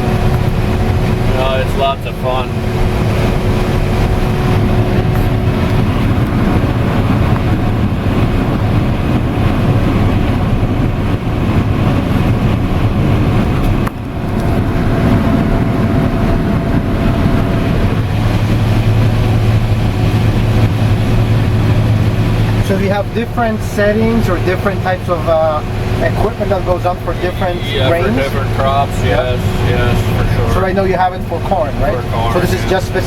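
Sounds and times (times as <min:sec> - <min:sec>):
combine harvester running: 0:00.0 - 0:33.0
deeper hum: 0:00.0 - 0:33.0.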